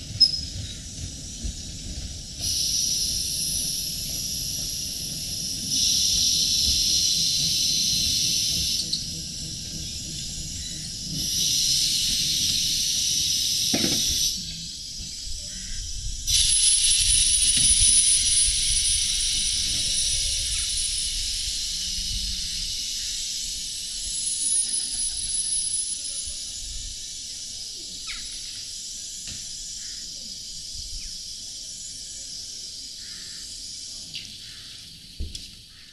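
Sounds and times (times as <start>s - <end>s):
steam locomotive hissing steam: 0.0s - 35.9s.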